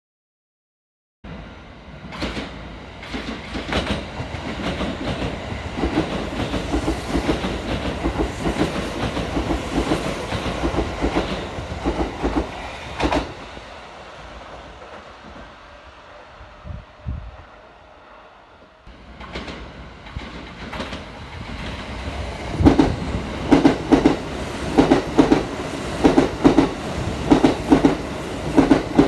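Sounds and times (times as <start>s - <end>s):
electric train passing: 1.3s - 29.0s.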